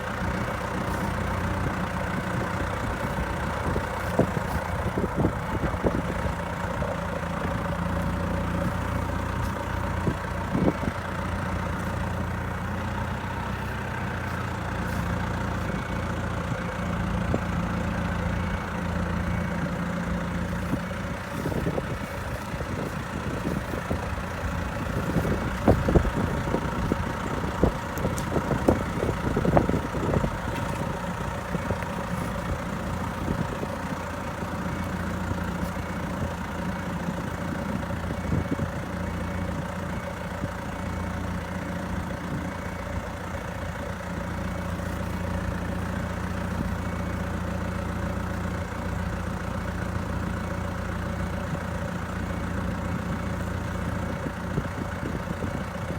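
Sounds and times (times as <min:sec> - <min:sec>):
diesel engine running at low revs: 0:00.0 - 0:55.9.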